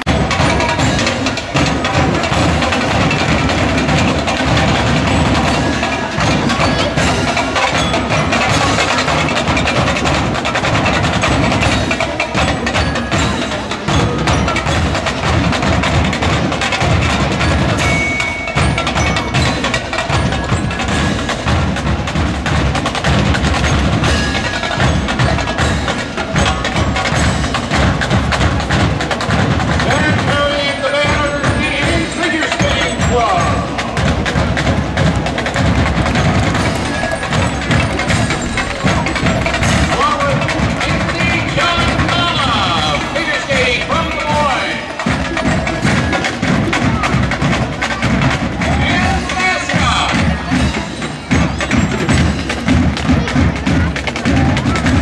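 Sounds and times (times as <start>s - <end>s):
drum line marching cadence: 0.0s - 55.0s.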